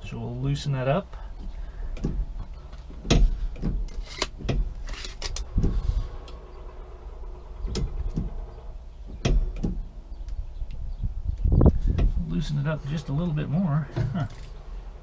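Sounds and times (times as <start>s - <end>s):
low rumble: 1.1s - 15.0s.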